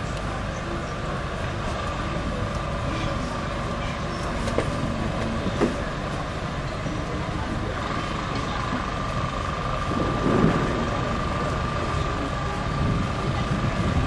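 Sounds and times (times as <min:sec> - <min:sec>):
faint distant voices: 0:00.0 - 0:14.0
low outdoor rumble: 0:00.0 - 0:14.0.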